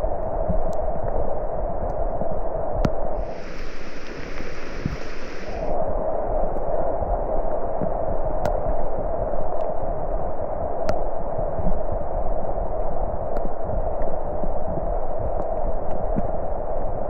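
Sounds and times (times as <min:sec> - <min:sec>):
muffled rushing noise: 0:00.0 - 0:17.0.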